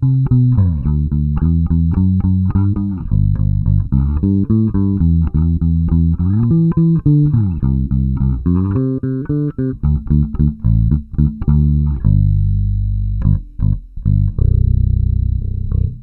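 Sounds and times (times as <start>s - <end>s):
electric bass played fingerstyle: 0.0s - 16.0s.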